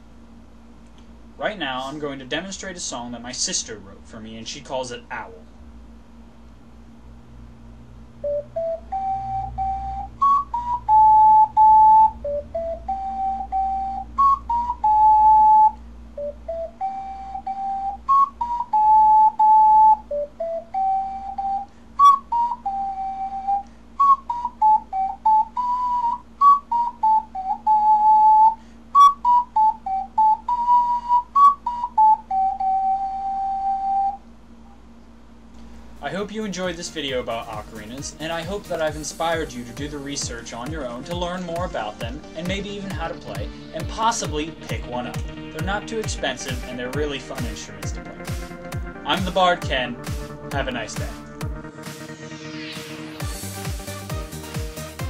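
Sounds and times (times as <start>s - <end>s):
ocarina melody: 8.2s - 34.8s, 36.0s - 55.0s.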